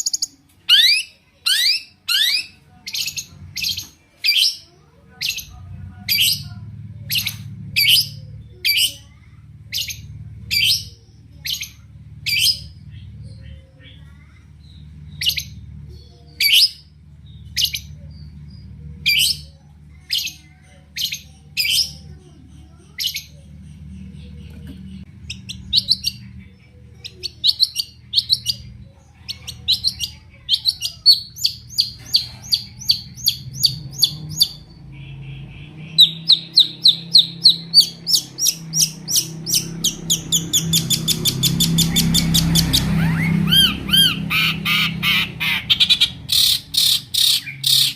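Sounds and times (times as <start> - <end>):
shrike singing: 0.0 - 47.9
low hum: 4.6 - 47.6.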